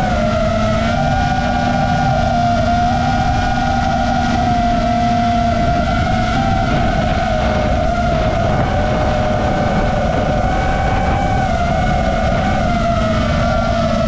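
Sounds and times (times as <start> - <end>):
drone motors whining: 0.0 - 14.0
wind rumble: 0.0 - 14.0.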